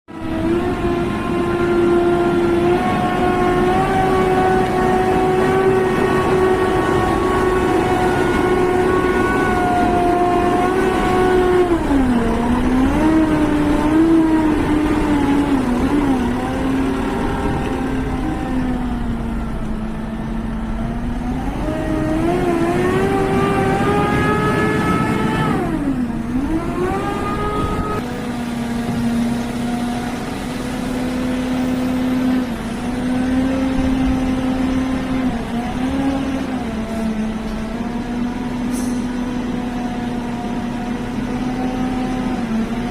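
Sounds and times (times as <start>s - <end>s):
diesel engine revving: 0.1s - 42.9s.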